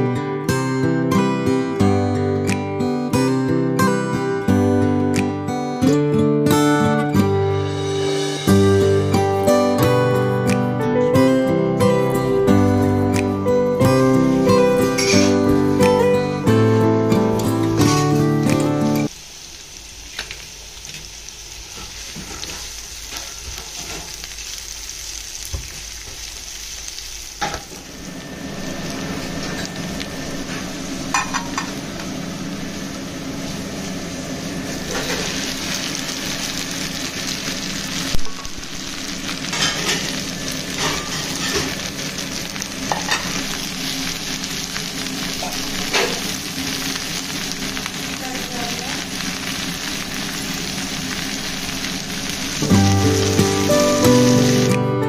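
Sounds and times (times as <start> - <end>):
vegetables sizzling in oil: 6.6 - 55.0.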